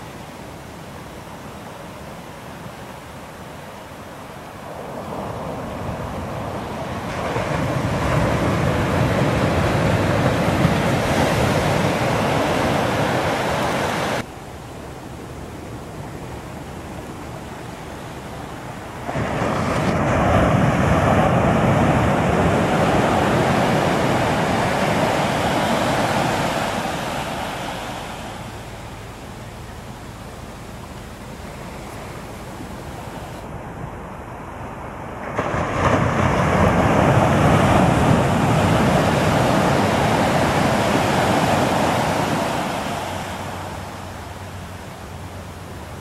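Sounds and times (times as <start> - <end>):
surf washing up a beach: 0.0 - 46.0.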